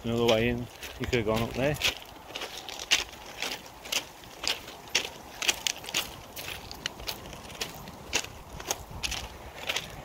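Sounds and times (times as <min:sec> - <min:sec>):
footsteps crunching on ballast: 0:00.0 - 0:10.0
wind rumble on microphone: 0:00.0 - 0:10.0.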